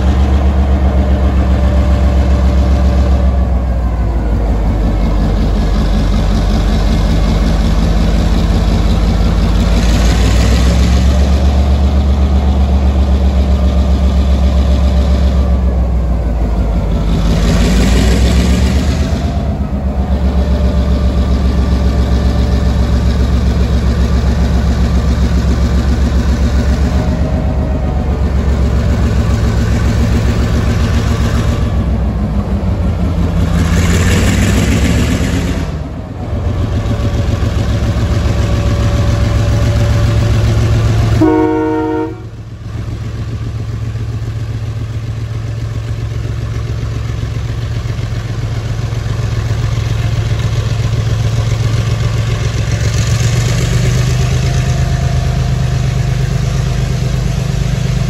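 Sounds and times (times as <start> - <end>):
locomotive diesel engine throbbing: 0.0 - 58.0.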